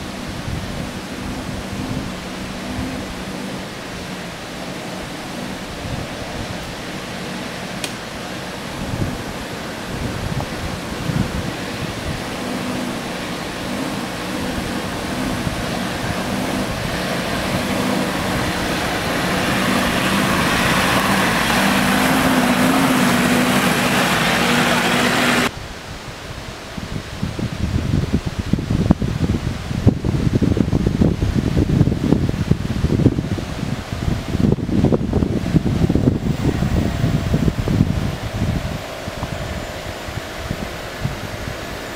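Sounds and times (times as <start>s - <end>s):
suv engine running: 0.0s - 25.5s, 29.9s - 41.9s
tyre and road noise: 0.0s - 25.6s, 26.3s - 41.9s.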